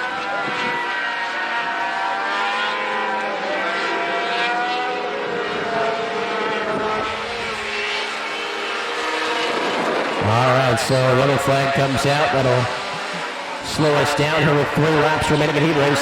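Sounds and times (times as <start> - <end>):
race truck engines: 0.0 - 16.0.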